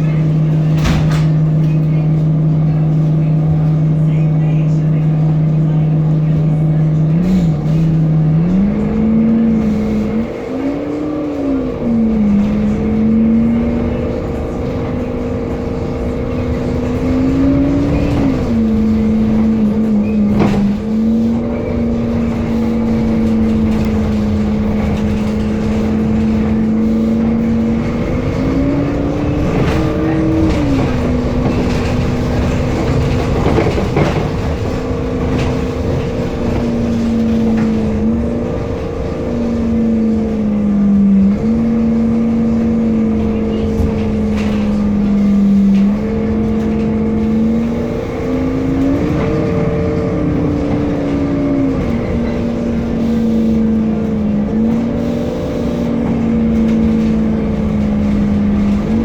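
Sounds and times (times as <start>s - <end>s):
bus engine droning: 0.0s - 59.0s
knocks and rattles: 7.0s - 55.1s, 55.7s - 59.0s.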